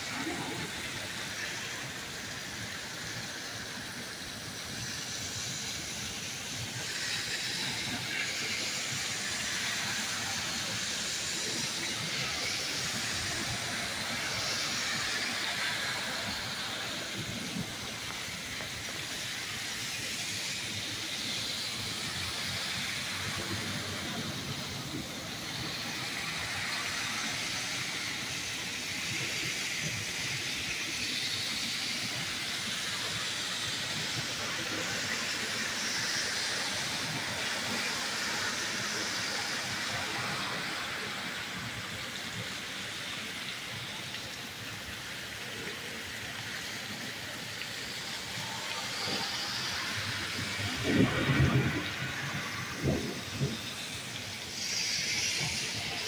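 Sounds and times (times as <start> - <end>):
car tyres swishing through water: 0.0 - 56.0
torrential rain: 0.0 - 56.0.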